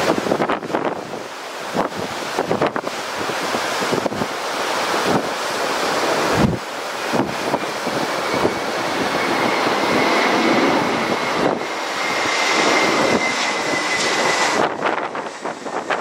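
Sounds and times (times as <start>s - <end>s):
jet airliner passing close by: 0.0s - 16.0s.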